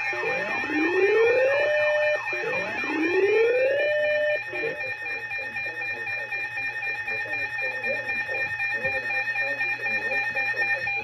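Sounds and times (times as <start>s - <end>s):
rising siren wails: 0.0s - 11.0s
steady alarm tones: 0.0s - 11.0s.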